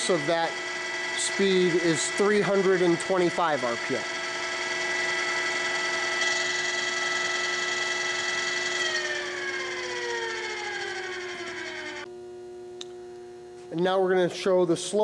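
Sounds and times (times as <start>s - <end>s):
drill press gear whine: 0.0s - 12.1s
electrical hum: 0.0s - 15.0s.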